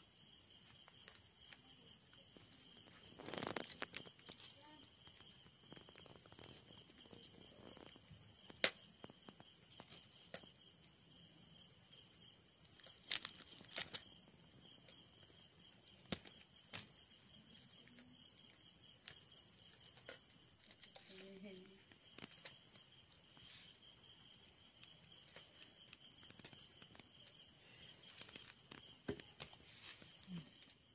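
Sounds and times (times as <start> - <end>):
crickets chirring: 0.0 - 30.9.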